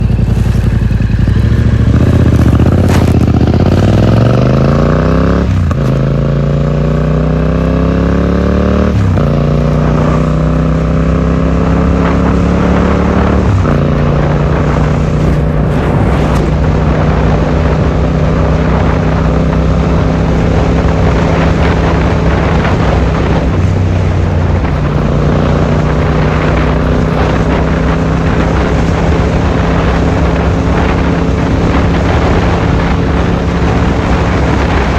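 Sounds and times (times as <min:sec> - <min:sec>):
motorcycle engine accelerating: 0:00.0 - 0:34.9
road noise: 0:00.0 - 0:34.9
wind noise: 0:00.0 - 0:34.9.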